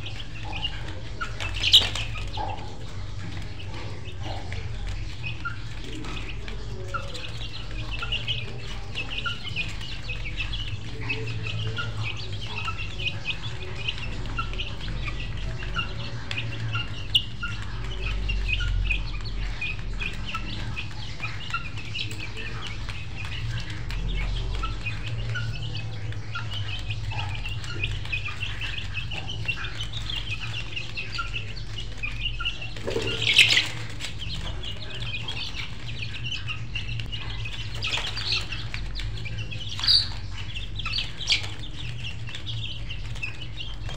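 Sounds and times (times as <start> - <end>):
birds chirping: 0.0 - 43.9
chickens clucking: 0.0 - 43.9.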